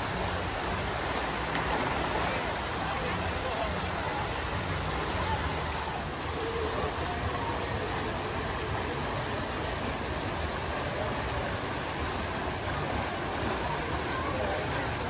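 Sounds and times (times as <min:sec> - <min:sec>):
water rushing down slides: 0:00.0 - 0:15.0
water splashing into pool: 0:00.0 - 0:15.0.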